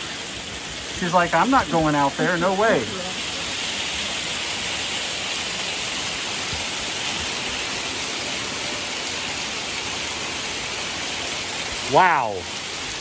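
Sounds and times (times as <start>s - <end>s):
hailstones pelting the ground: 0.0s - 13.0s.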